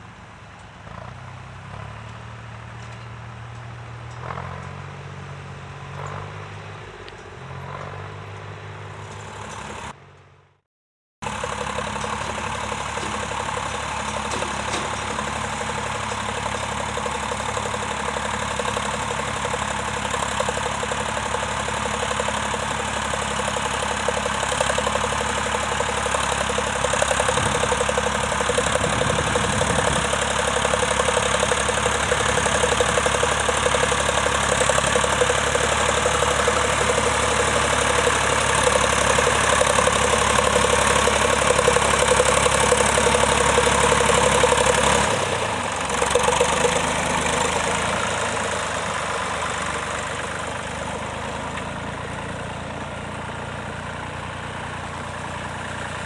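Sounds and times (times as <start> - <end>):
tractor engine running: 0.0 - 10.6, 11.2 - 56.0.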